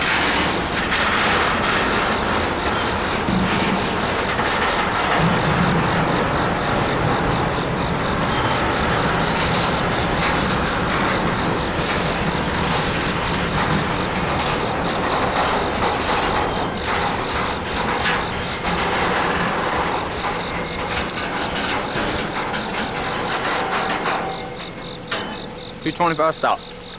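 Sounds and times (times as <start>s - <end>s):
freight train rumbling past: 0.0s - 26.9s
train wheels clattering on rails: 0.0s - 26.9s
wheels and brakes squealing: 0.0s - 26.9s.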